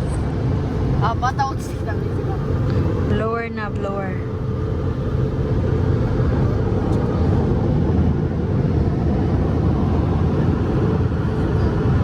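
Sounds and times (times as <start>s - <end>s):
drying blowers rushing air: 0.0s - 12.0s.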